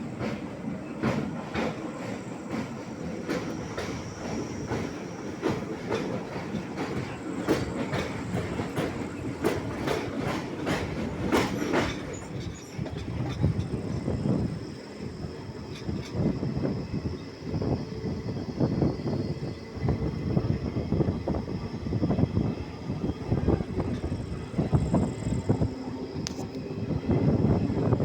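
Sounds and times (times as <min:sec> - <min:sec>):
train rumble: 0:00.0 - 0:28.0
train wheels clattering over rails: 0:00.0 - 0:28.0.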